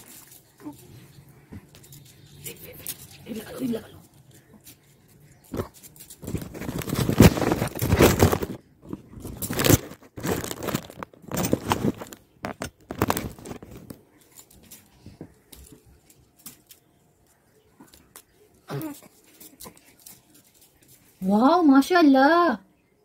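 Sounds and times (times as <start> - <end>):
fabric rustling and crinkling: 0.0 - 21.6.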